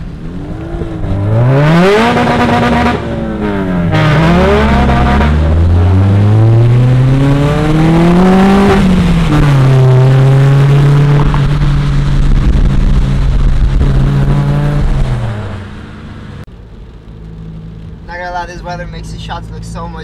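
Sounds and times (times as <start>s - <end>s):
car engine revving: 0.0s - 20.0s
road noise: 0.0s - 20.0s.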